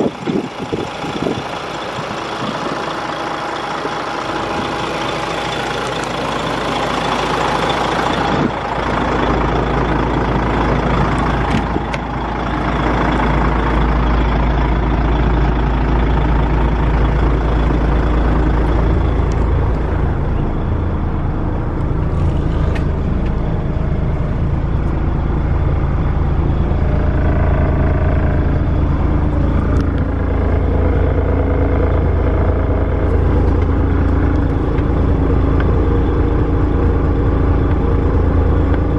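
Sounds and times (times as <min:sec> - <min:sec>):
diesel truck engine droning: 0:00.0 - 0:38.9.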